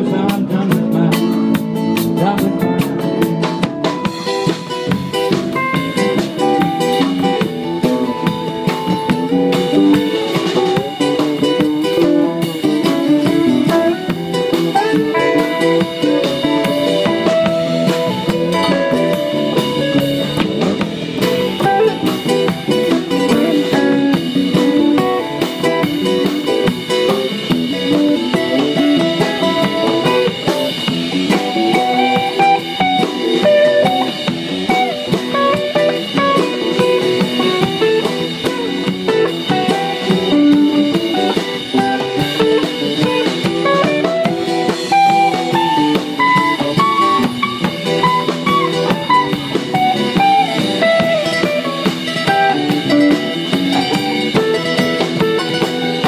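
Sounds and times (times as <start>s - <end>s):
acoustic guitar: 0.0s - 56.0s
bass guitar: 0.0s - 56.0s
drum kit beat: 0.0s - 56.0s
electric guitar melody: 0.0s - 56.0s.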